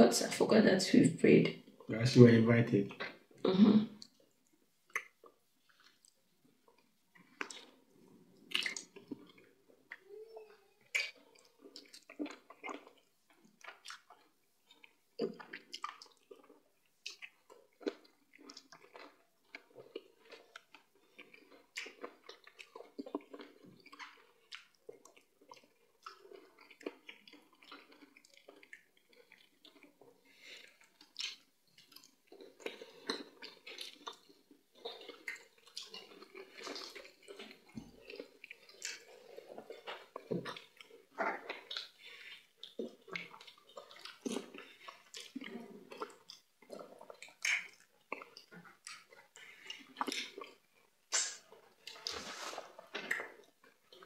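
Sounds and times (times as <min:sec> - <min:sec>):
wet chewing and lip-smacking: 0:04.0 - 0:52.1, 0:52.8 - 0:54.0.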